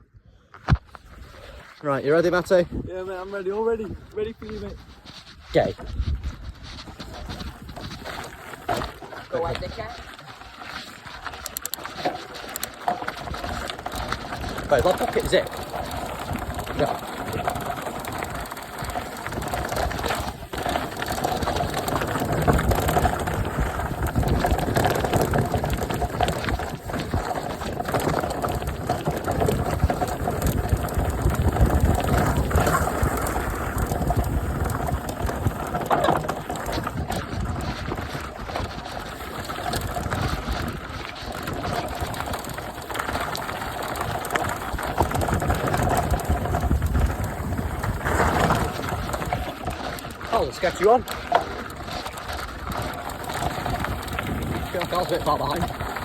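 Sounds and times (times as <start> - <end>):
bike rattling over bumps: 0.7 - 56.0
tyres rumbling over gravel: 1.5 - 56.0.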